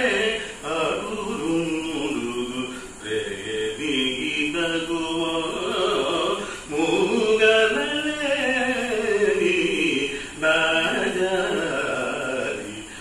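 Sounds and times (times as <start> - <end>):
man singing a devotional song: 0.0 - 13.0.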